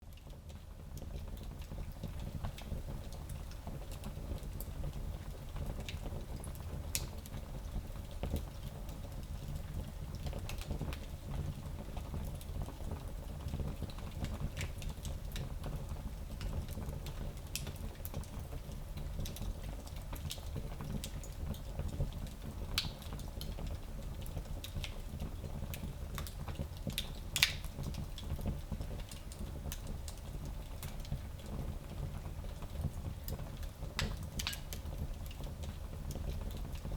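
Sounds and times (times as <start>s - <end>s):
low fire rumble: 0.1s - 36.9s
fire crackling and popping: 0.2s - 36.9s.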